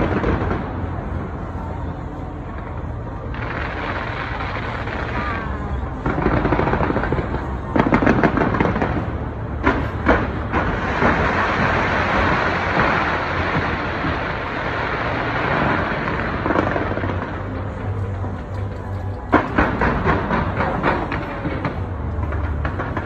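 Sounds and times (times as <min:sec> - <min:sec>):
fireworks bangs: 0:00.0 - 0:01.8, 0:02.5 - 0:18.4, 0:19.3 - 0:23.0
fireworks crackling: 0:00.0 - 0:23.0.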